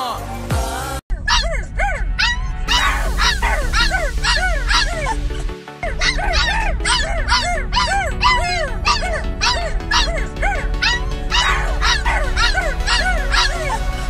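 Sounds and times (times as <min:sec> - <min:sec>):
background music: 0:00.0 - 0:14.0
puppy howling yips: 0:01.2 - 0:05.2, 0:05.8 - 0:14.0.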